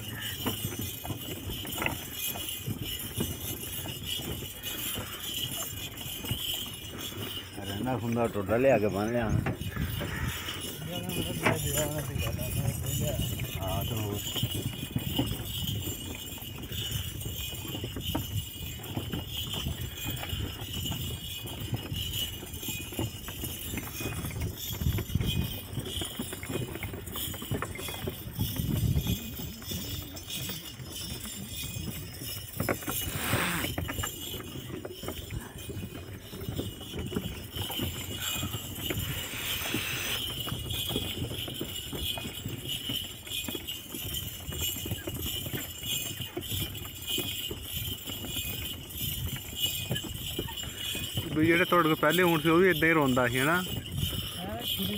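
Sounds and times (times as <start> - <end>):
harness and chains jingling: 0.0 - 54.9
wooden cart rumbling: 0.0 - 54.9.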